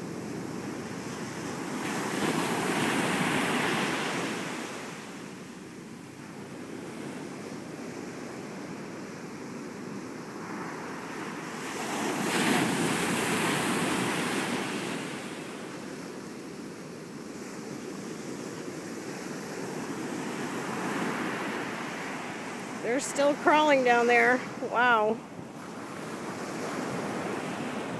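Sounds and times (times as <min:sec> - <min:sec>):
steady wash of surf: 0:00.0 - 0:27.9
wave breaking over sandbar: 0:00.0 - 0:27.9.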